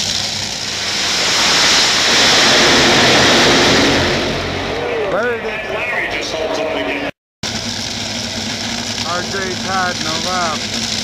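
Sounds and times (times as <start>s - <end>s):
dragsters roaring: 0.0s - 11.0s.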